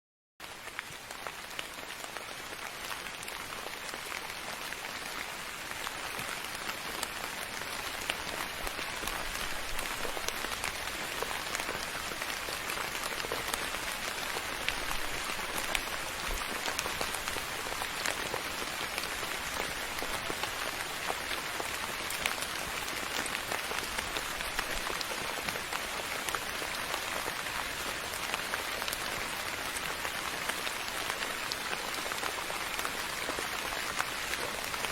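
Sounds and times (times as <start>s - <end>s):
soft rain falling: 0.4s - 34.9s.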